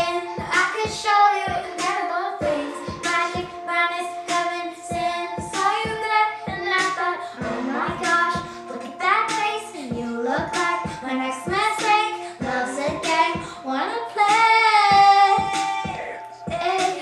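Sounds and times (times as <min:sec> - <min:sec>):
girl singing a pop song: 0:00.0 - 0:17.0.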